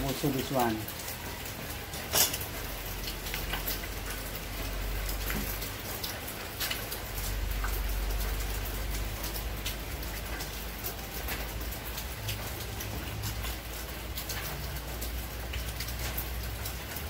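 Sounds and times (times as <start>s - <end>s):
small drips: 0.0s - 17.0s
water splattering on concrete floor: 0.0s - 17.0s.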